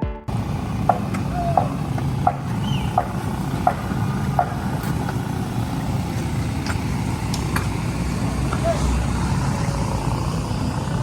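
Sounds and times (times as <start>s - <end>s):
low rumble of engines and machinery: 0.3s - 11.0s.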